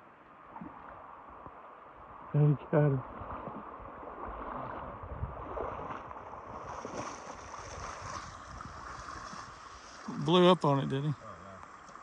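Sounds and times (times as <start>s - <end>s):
wind rumbling on microphone: 0.0s - 10.4s
river water rushing and splashing: 0.0s - 12.0s.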